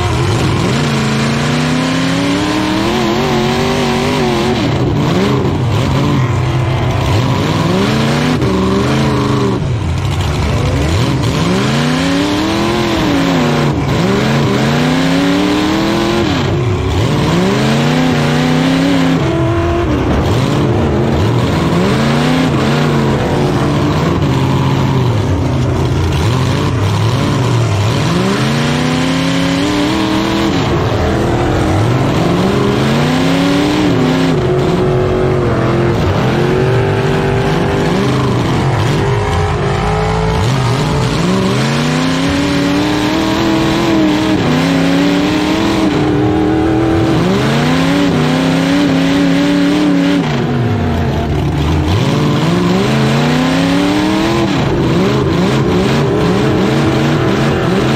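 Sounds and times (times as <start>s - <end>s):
truck engine revving: 0.0s - 57.9s.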